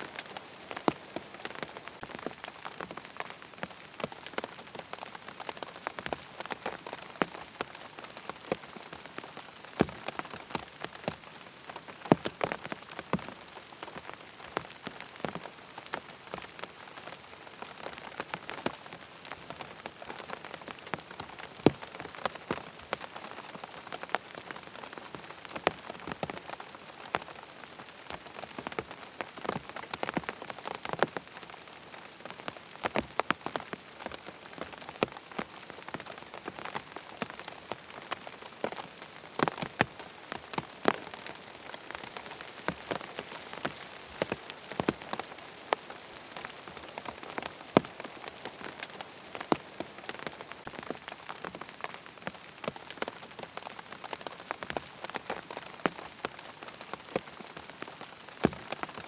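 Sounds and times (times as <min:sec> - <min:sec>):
steady rain hissing: 0:00.0 - 0:59.0
ticks of close raindrops: 0:00.0 - 0:59.0.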